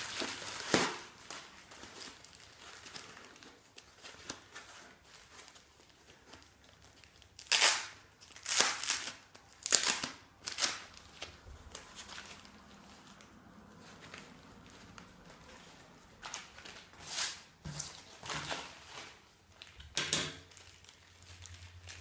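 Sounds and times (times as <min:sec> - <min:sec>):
packaging crinkling: 0:00.0 - 0:22.0.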